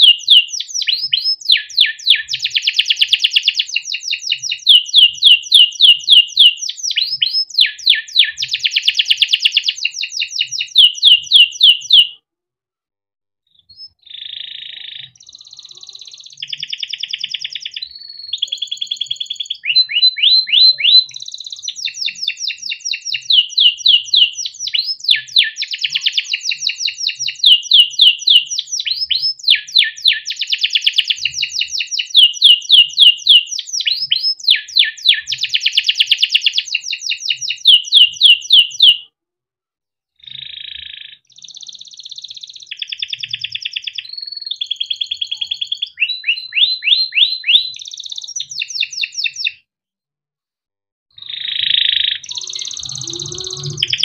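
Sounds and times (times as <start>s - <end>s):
canary singing trills: 0.0s - 12.2s, 13.6s - 39.1s, 40.2s - 49.6s, 51.2s - 54.0s.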